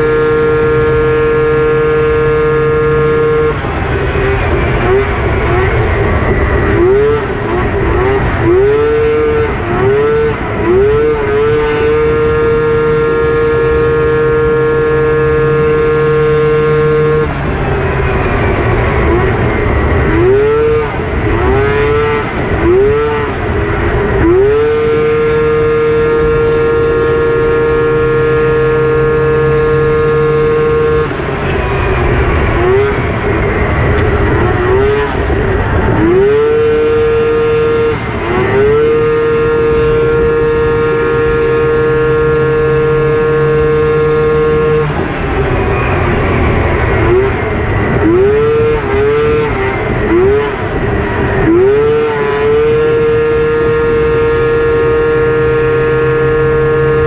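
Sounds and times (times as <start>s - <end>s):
snowmobile engine racing: 0.0s - 57.0s.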